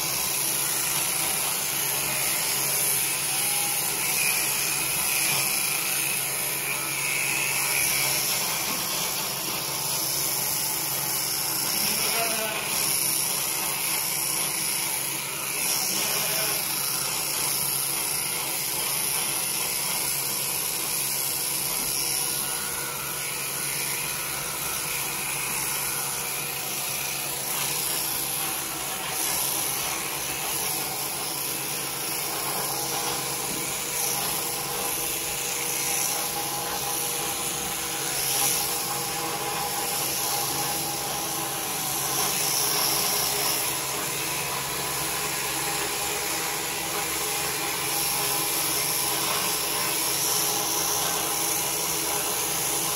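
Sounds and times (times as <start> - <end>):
electric shears cutting fleece: 0.0 - 52.9.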